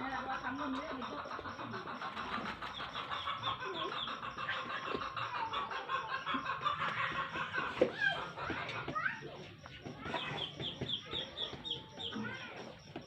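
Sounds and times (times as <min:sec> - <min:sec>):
birds chirping and chattering: 0:00.0 - 0:13.0
fowl clucking: 0:00.0 - 0:13.0.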